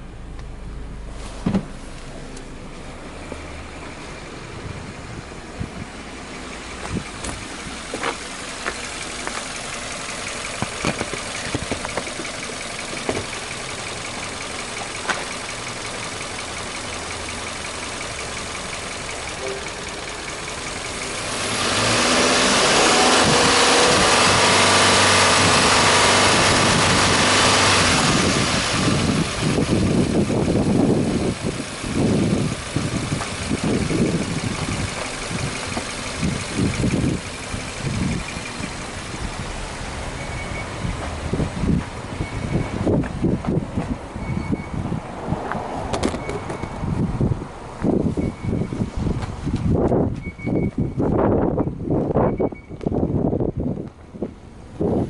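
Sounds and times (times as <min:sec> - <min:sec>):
car engine idling and revving: 0:00.0 - 0:55.0
engine clicks and knocks: 0:05.5 - 0:55.0.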